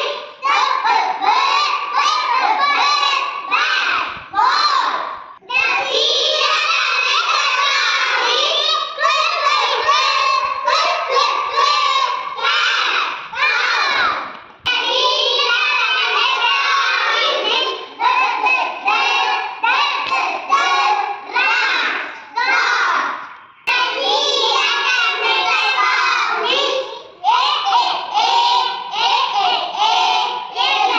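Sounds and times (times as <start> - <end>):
children chanting together: 0.0 - 30.9.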